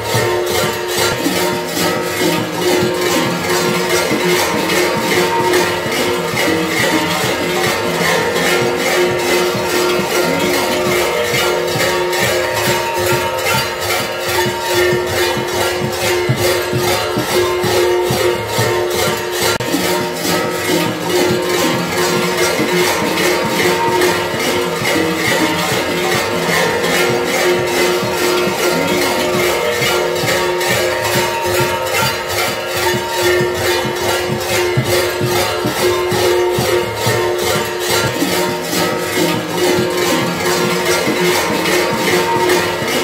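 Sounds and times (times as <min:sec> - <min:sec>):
large metal bells clanging: 0:00.0 - 0:43.0.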